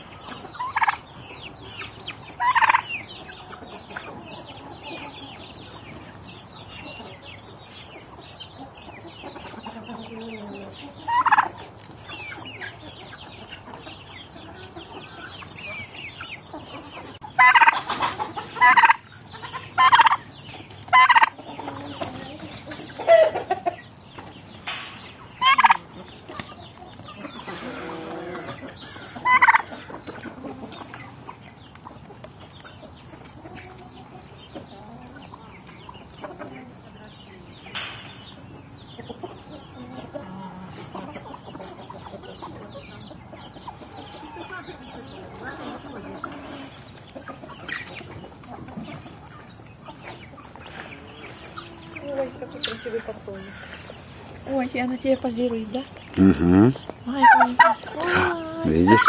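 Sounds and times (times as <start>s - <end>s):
turkeys gobbling: 0.0s - 37.1s, 37.7s - 54.5s, 56.0s - 59.0s
chickens clucking: 0.0s - 59.0s.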